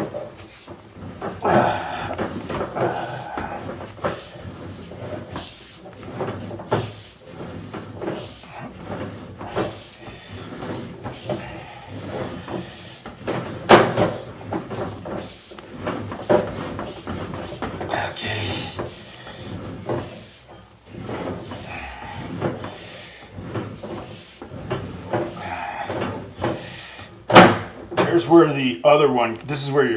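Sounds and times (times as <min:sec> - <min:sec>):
knocks clatters and rubbing: 0:00.0 - 0:29.9.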